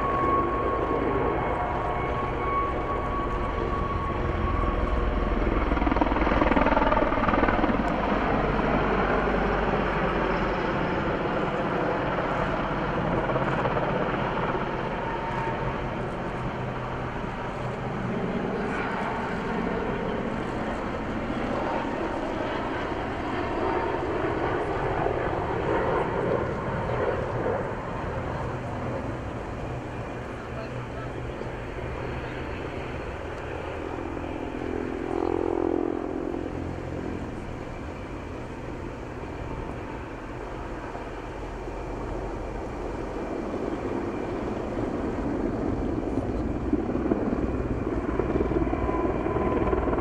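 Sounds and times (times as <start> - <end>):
helicopter rotor and turbine drone: 0.0 - 50.0.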